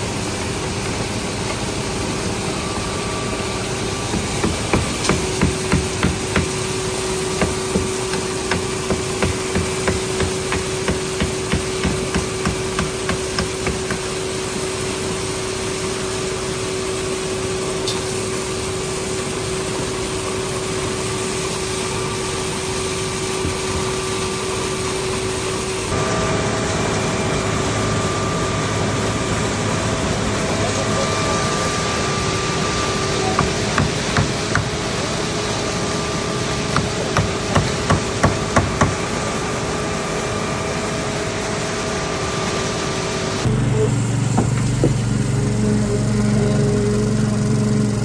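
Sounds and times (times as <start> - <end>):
concrete mixer truck humming: 0.0 - 48.0.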